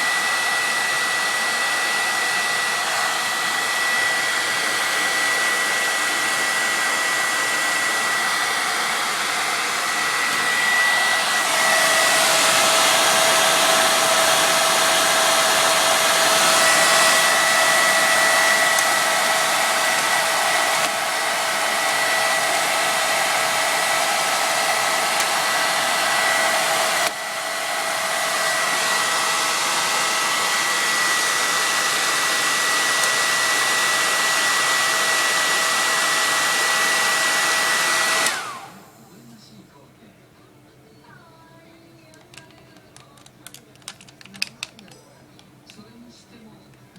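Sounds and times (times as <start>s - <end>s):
hair dryer blowing: 0.0s - 39.6s, 41.7s - 46.0s.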